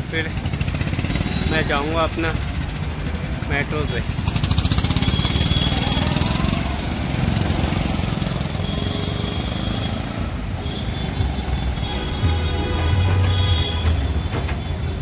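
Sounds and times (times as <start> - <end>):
auto-rickshaw engine chugging: 0.0 - 15.0
road traffic: 0.0 - 15.0.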